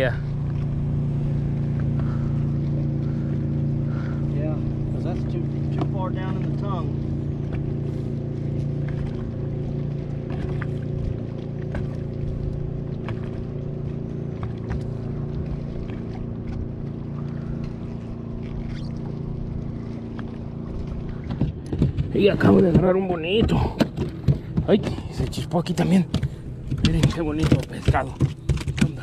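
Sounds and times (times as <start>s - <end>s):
boat motor running: 0.0s - 29.0s.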